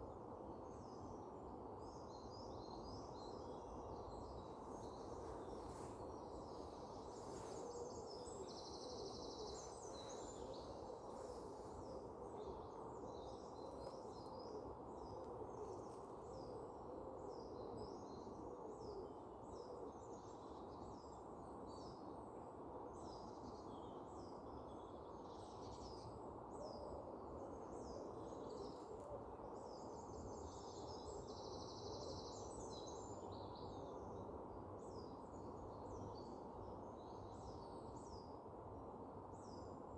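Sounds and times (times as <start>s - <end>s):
low background hiss: 0.0s - 39.9s
songbirds chirping: 0.0s - 39.9s.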